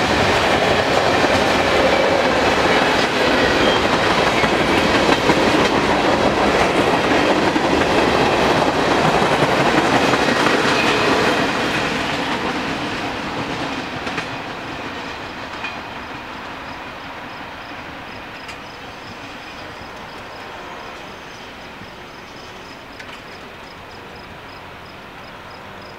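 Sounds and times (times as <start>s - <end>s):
train wheels clacking on rails: 0.0s - 25.9s.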